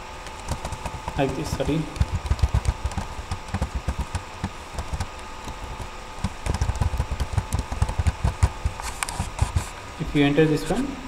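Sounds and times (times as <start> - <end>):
computer keyboard typing: 0.0 - 9.7.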